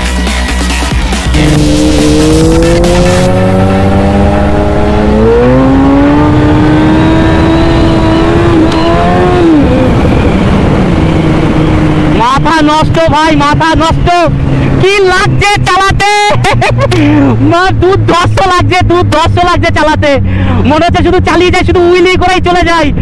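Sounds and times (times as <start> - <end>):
motorcycle engine accelerating: 0.9 - 19.8.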